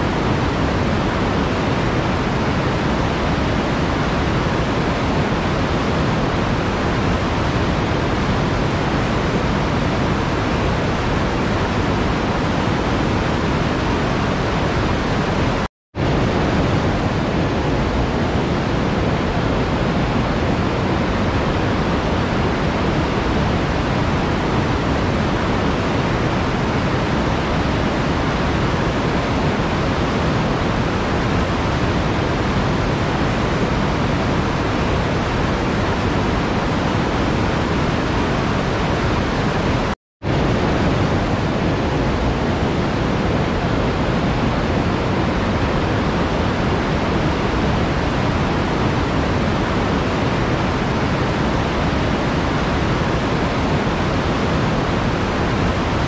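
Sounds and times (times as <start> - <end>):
river rapids rushing over boulders: 0.0 - 56.0.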